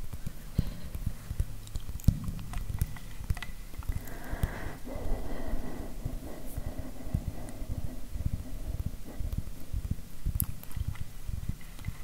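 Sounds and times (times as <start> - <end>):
fingertips tapping on a microphone: 0.0 - 12.0.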